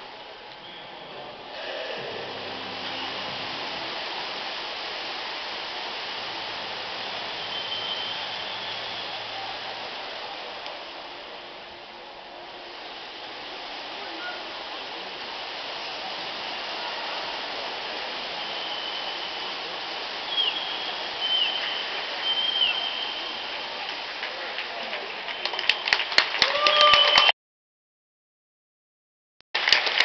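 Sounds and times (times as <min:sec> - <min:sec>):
swimmers splashing water: 0:00.0 - 0:26.4
crowd noise: 0:00.0 - 0:27.3.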